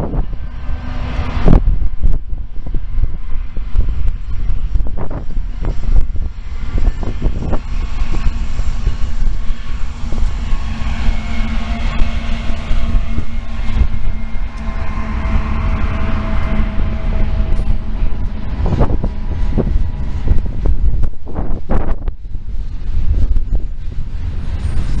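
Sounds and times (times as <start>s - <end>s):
diesel locomotives passing: 0.0s - 25.0s
train cars rumbling on rails: 0.0s - 25.0s.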